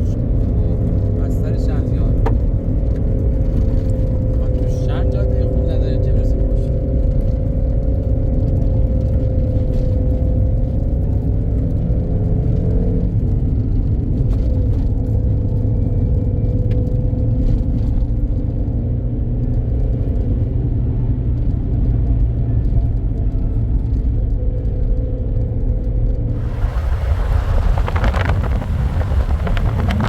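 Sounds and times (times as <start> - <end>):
vehicle road and engine rumble: 0.0 - 30.0.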